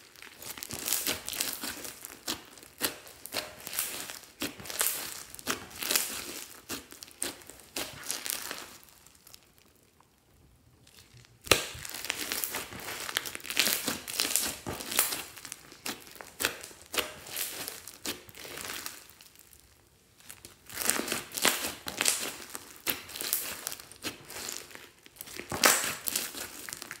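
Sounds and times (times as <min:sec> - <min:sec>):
slime squishing and crackling: 0:00.0 - 0:27.0.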